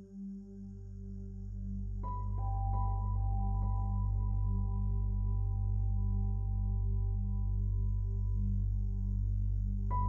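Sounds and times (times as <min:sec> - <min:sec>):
low steady drone: 0:00.0 - 0:10.0.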